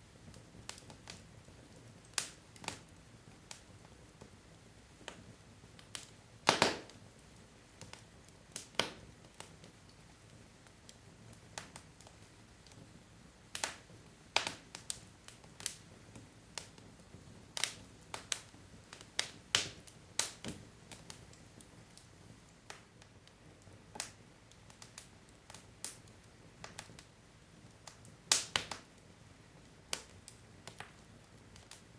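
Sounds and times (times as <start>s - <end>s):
faint steady hiss: 0.0s - 31.9s
logs crackling in fireplace: 0.0s - 31.9s.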